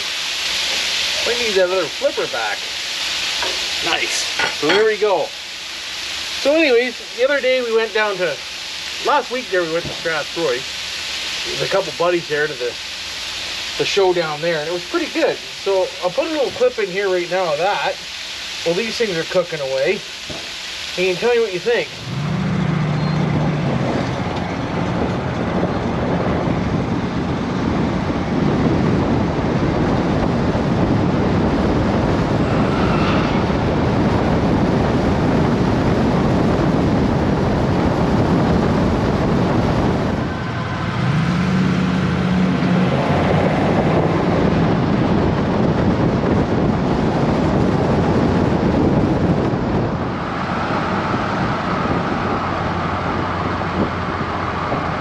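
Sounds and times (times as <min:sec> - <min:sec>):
tyre road noise: 0:00.0 - 0:55.0
wind noise: 0:00.0 - 0:55.0.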